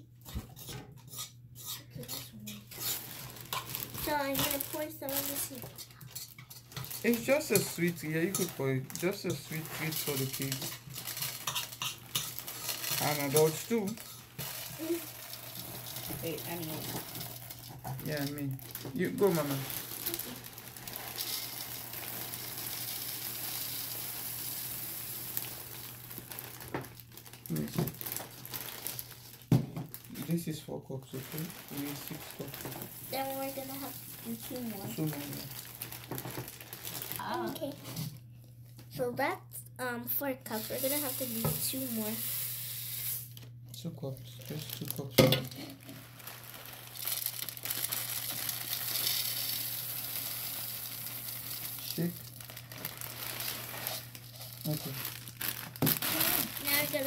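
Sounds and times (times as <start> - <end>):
plastic bag crinkling: 2.0 - 38.8, 40.5 - 57.0
dry cereal pouring into cup: 2.7 - 6.0, 6.6 - 30.5, 31.1 - 37.3, 40.5 - 43.4, 44.3 - 57.0.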